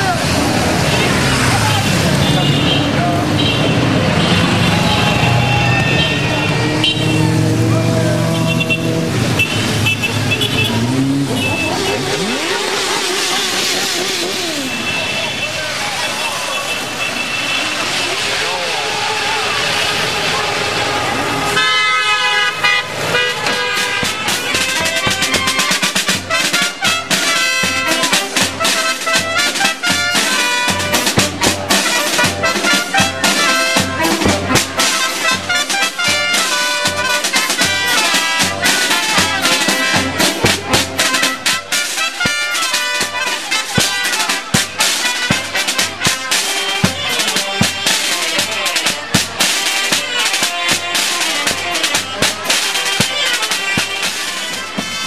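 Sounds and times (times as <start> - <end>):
steady drum beat: 0.0 - 16.0, 22.4 - 55.0
brass band playing: 0.0 - 55.0.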